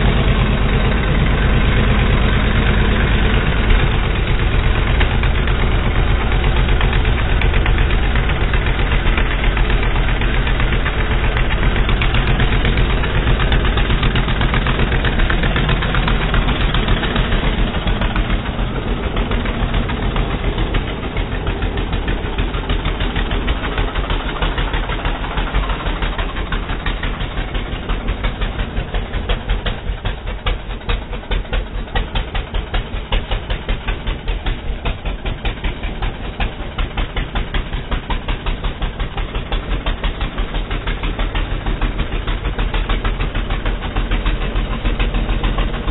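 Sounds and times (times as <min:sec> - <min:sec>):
quad bike engine running: 0:00.0 - 0:45.9.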